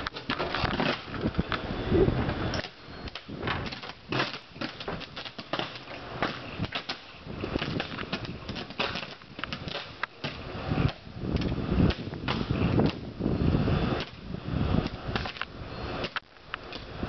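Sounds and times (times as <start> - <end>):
electrical arcing crackling and popping: 0.0 - 17.0.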